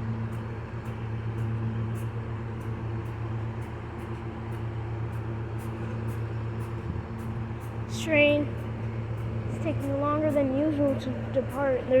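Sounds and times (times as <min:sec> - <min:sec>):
diesel train idling hum: 0:00.0 - 0:12.0.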